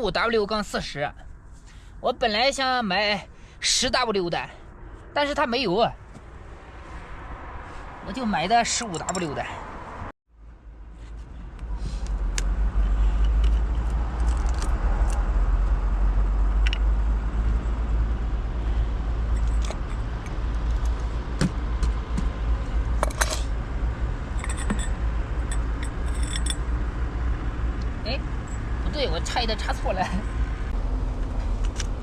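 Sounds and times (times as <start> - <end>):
steady low rumble: 4.2 - 32.0.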